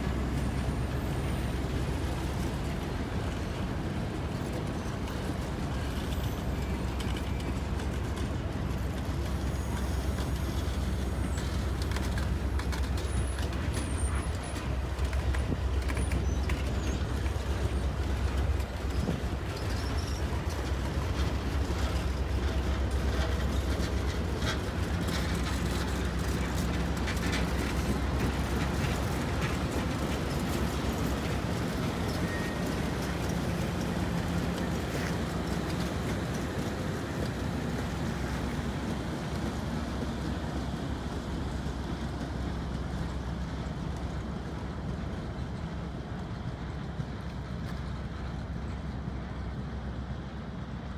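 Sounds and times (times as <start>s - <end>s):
train rolling past rumbling: 0.0s - 50.9s.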